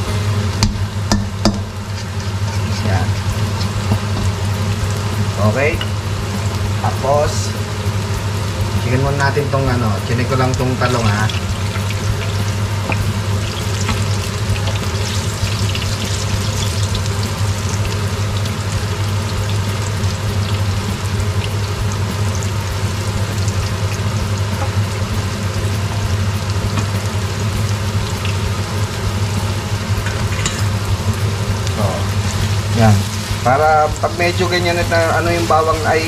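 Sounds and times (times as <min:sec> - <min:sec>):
food sizzling in hot oil: 0:00.0 - 0:36.0
steady low hum: 0:00.0 - 0:36.0.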